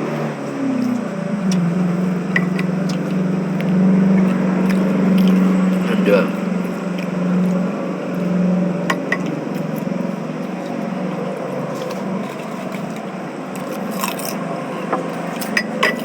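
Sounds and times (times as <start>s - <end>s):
low background hum: 0.2s - 16.0s.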